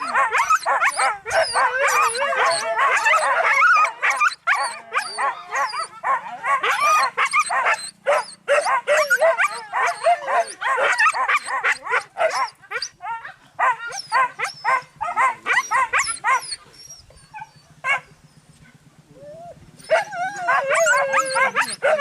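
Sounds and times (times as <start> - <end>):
dogs yelping and baying: 0.0 - 18.6, 19.3 - 22.0.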